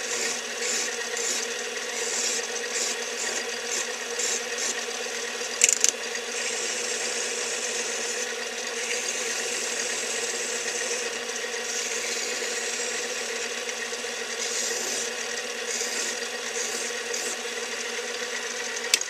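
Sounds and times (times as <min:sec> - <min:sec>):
lathe motor hum: 0:00.0 - 0:19.0.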